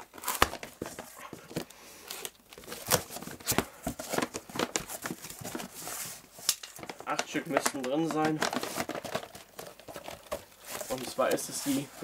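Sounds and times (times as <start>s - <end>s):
cardboard rustling and knocking: 0.0s - 1.7s, 2.6s - 12.0s.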